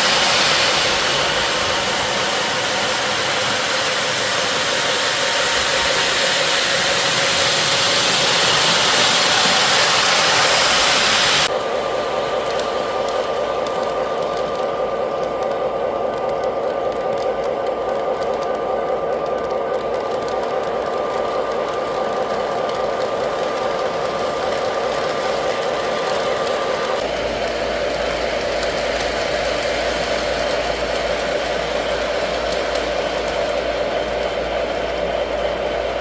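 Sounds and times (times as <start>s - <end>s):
model train wheel and motor noise: 0.0s - 36.0s
thin constant whine: 0.0s - 36.0s.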